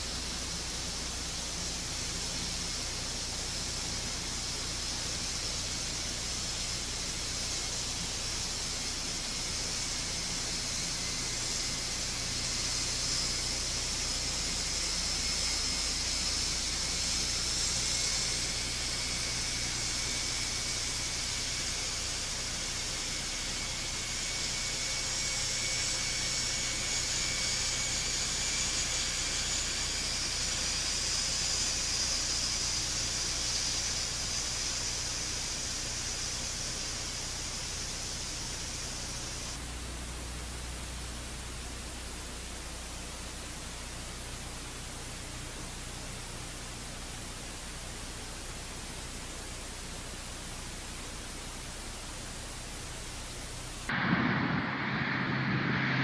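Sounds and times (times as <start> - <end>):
turboprop engines running: 0.0 - 56.0.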